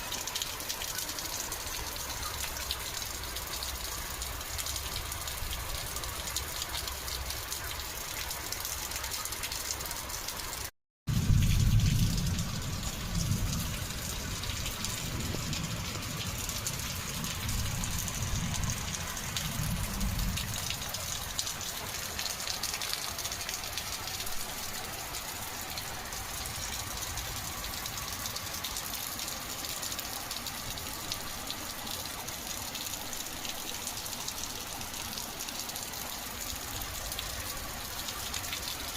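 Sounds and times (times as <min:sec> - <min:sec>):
rain falling and splashing: 0:00.0 - 0:38.9.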